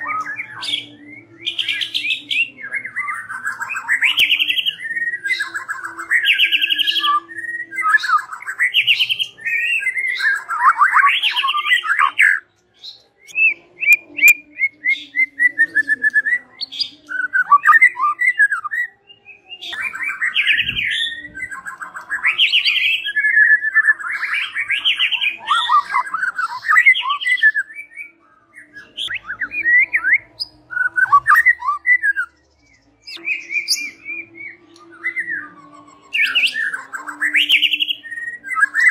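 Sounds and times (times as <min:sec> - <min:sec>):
songbird trilling and whistling: 0:00.0 - 0:38.9.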